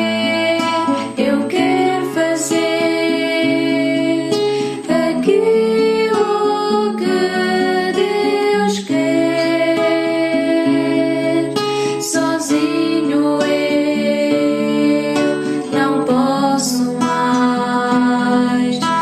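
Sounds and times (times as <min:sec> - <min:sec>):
music with held chords: 0:00.0 - 0:19.0.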